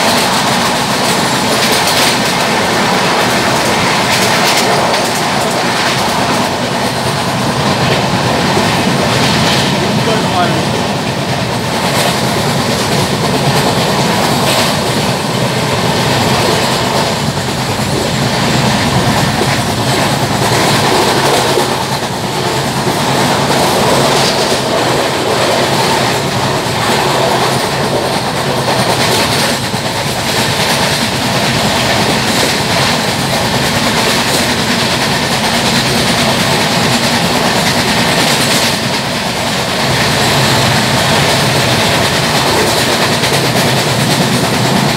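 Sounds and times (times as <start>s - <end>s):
train wheels clattering on track: 0.0s - 44.9s.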